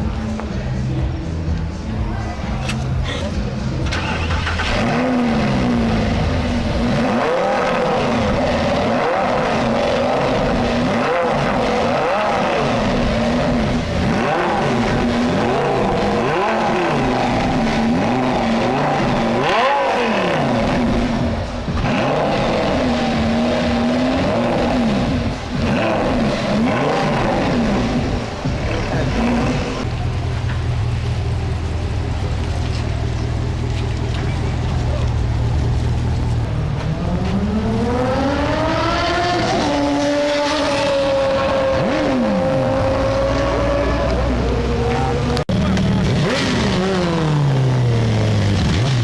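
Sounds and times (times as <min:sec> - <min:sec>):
vehicle engine revving: 0:00.0 - 0:49.0.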